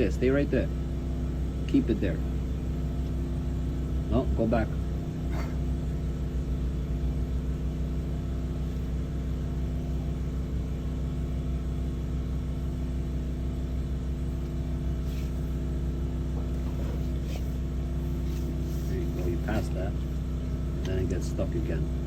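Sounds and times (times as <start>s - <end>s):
drain cleaning machine drone: 0.0s - 22.0s.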